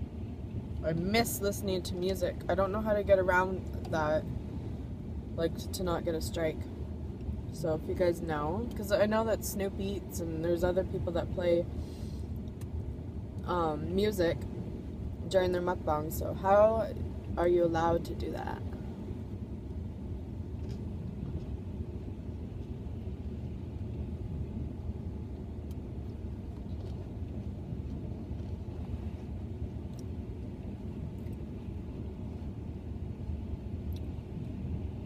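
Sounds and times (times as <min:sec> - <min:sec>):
low rumble in car cabin: 0:00.0 - 0:35.0.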